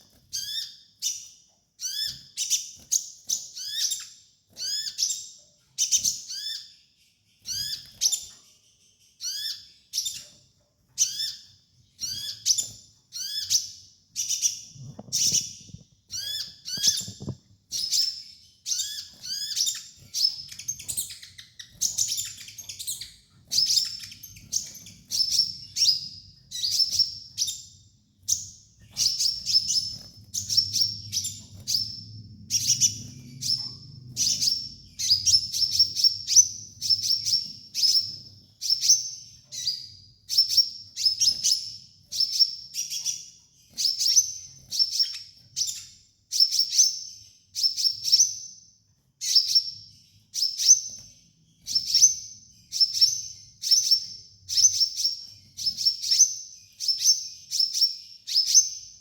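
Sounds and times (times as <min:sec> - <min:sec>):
sunbird chirping: 0:00.0 - 0:48.4.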